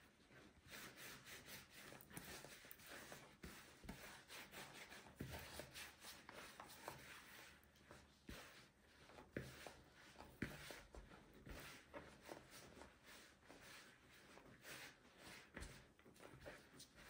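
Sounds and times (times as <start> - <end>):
hands kneading dough: 0.0 - 17.0.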